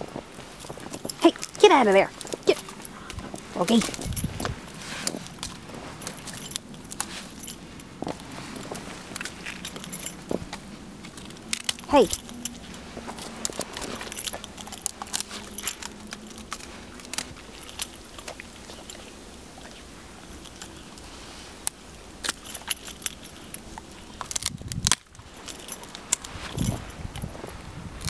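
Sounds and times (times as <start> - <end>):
dog digging in snow: 0.2 - 24.2
metal tags jingling on dog collar: 0.4 - 27.7.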